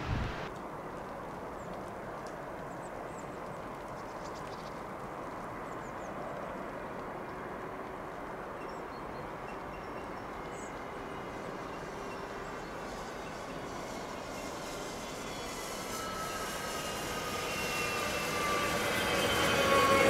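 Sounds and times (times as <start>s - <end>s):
distant train rumbling: 0.0s - 20.0s.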